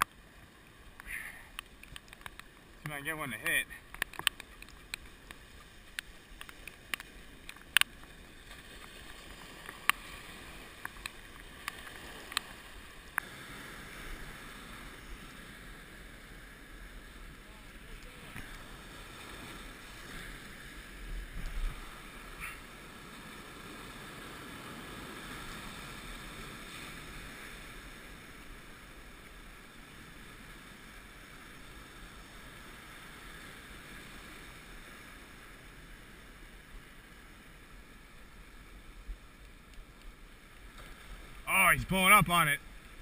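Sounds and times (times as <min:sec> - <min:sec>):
surf washing over rocks: 0:00.0 - 0:43.0.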